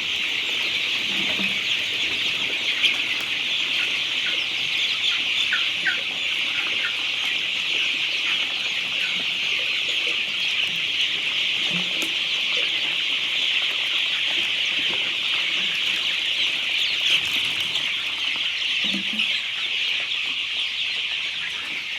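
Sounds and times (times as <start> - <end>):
chicken clucks: 0.0 - 21.9
chicks cheeping: 0.0 - 21.9.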